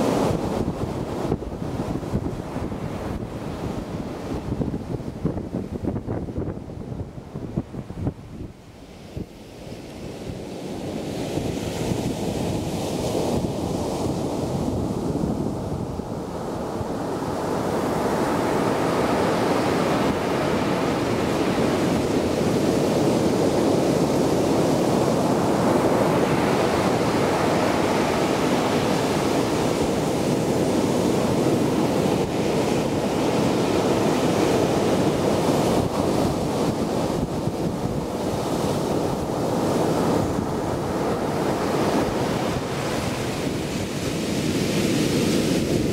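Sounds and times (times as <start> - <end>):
waves breaking on shore: 0.0 - 45.9
wind buffeting microphone: 0.0 - 45.9.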